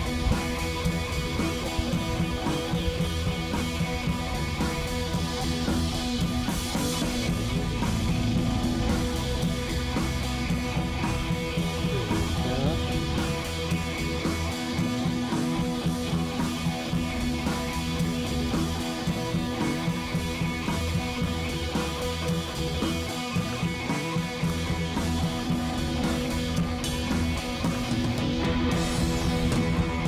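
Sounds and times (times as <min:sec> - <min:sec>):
instrumental music with guitar and drums: 0:00.0 - 0:30.0.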